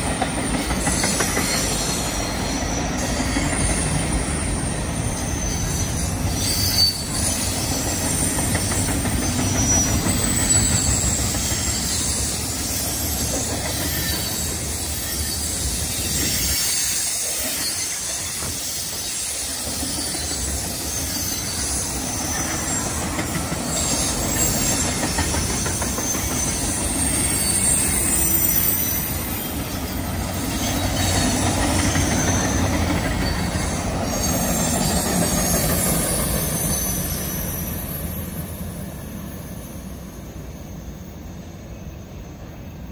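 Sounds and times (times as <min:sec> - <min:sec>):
train wheels rumbling on rails: 0:00.0 - 0:42.9
high wheel squeal: 0:00.4 - 0:42.5.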